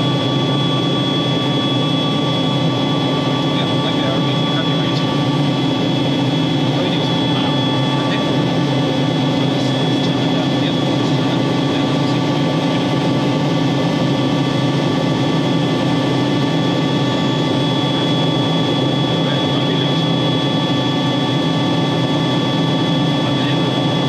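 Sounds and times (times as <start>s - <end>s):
helicopter turbine engine running: 0.0s - 24.0s.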